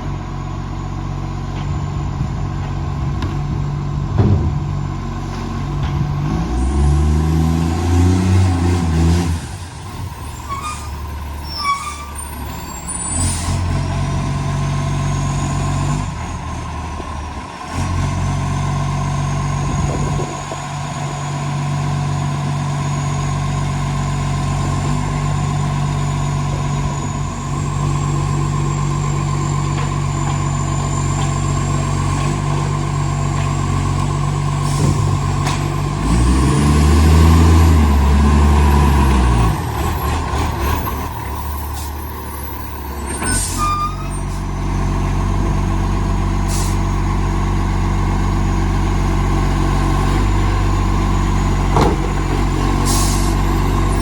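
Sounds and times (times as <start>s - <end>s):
diesel engine with exhaust leak: 0.0s - 54.0s.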